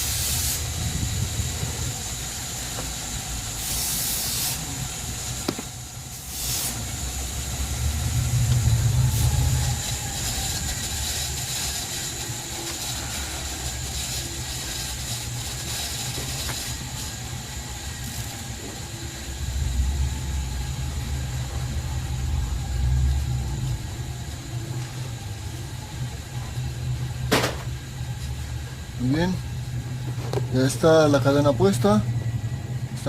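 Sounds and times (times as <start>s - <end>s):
engine low rumble: 0.0s - 3.9s, 4.6s - 33.0s.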